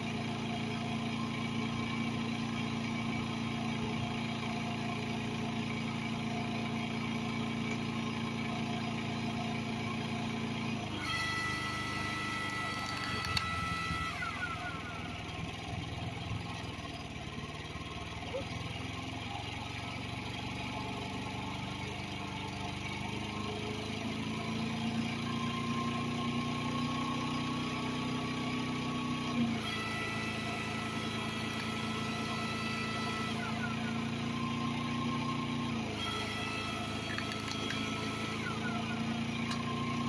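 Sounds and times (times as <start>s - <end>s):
generator engine running: 0.0s - 40.0s.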